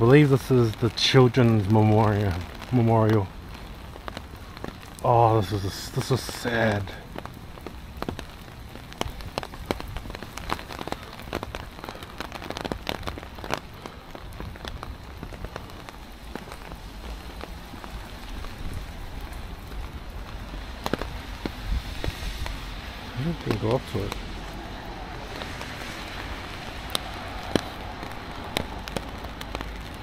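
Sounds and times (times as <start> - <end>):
rain on wet paving: 0.0 - 30.0
raindrops ticking on umbrella: 0.0 - 30.0.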